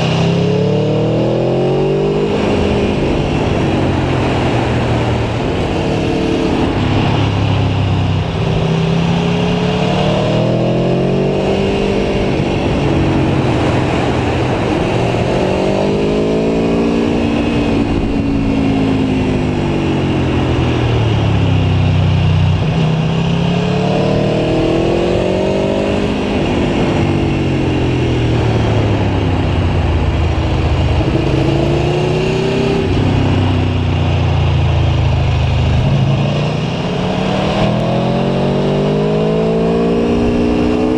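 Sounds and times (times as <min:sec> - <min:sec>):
motorcycle engine accelerating: 0:00.0 - 0:40.9
wind noise: 0:00.0 - 0:40.9.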